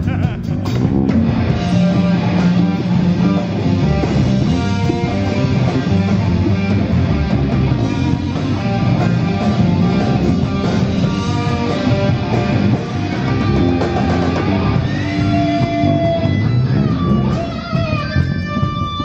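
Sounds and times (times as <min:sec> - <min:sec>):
heavy rock band playing live: 0:00.0 - 0:19.0.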